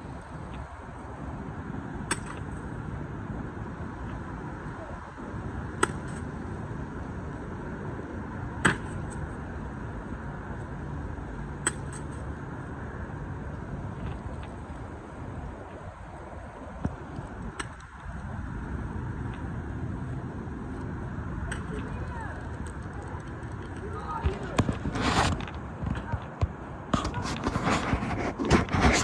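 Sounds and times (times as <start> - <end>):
low background rumble: 0.0 - 29.0.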